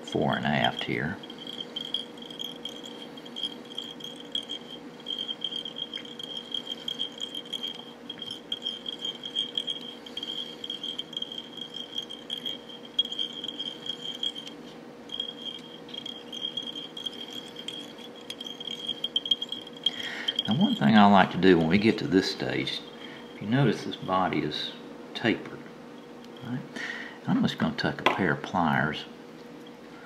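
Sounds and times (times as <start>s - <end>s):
cricket trilling: 0.0s - 24.5s
faint steady hum: 0.0s - 30.0s.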